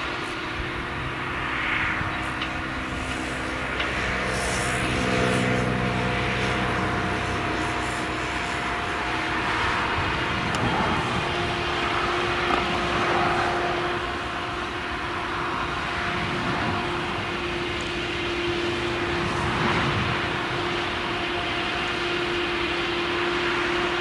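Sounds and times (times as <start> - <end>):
forage harvester droning: 0.0 - 24.0
tractor running: 0.0 - 24.0.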